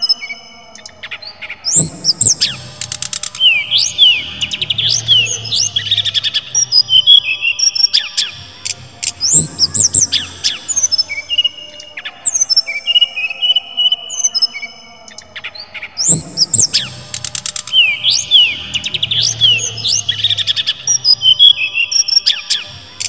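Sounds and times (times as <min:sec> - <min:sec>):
flycatcher singing: 0:00.0 - 0:23.0.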